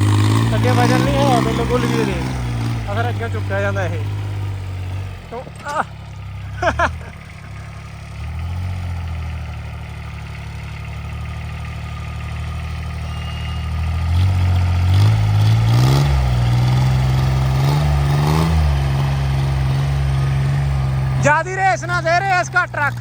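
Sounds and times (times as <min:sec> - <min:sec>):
tractor engine revving: 0:00.0 - 0:23.0.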